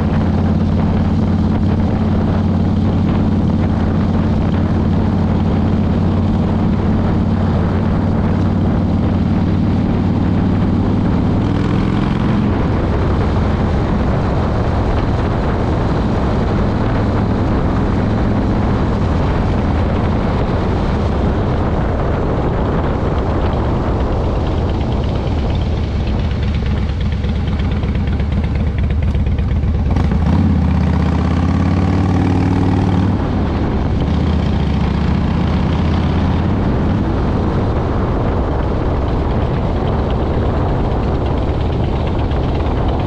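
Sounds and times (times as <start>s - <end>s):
motorcycle engine running: 0.0s - 43.0s
wind on microphone: 0.0s - 43.0s.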